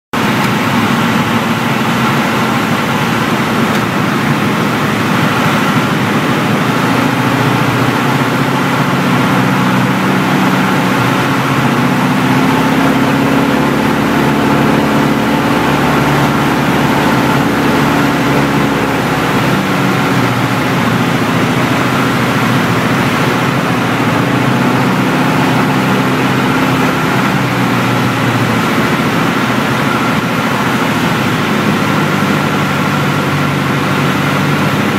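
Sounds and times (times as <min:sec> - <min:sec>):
airplane engine drone in cabin: 0:00.2 - 0:34.9
rushing air noise: 0:00.2 - 0:34.9.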